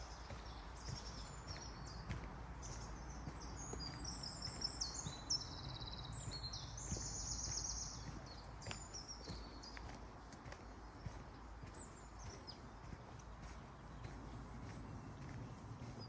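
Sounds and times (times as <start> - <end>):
footsteps on sandy path: 0.0 - 16.0
songbirds trilling: 0.0 - 16.0.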